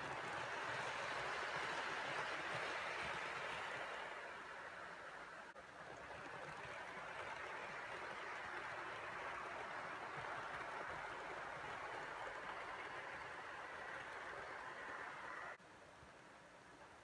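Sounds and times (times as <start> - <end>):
model train whirring on track: 0.0 - 15.6.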